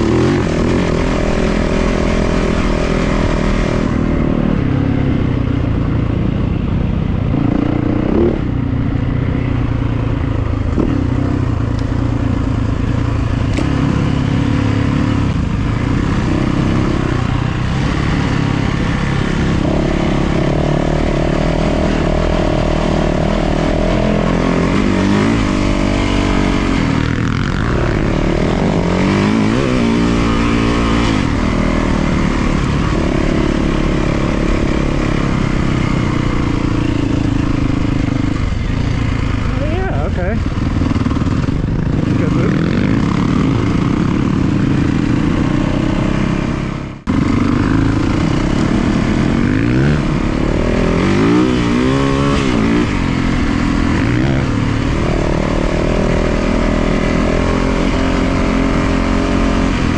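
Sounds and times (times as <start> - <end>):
dirt bike engine revving: 0.0 - 5.0, 7.3 - 59.9.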